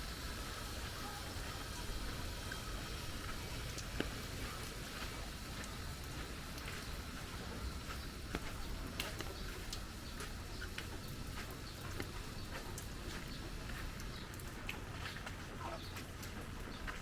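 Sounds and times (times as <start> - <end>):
rain drips and taps: 0.0 - 17.0.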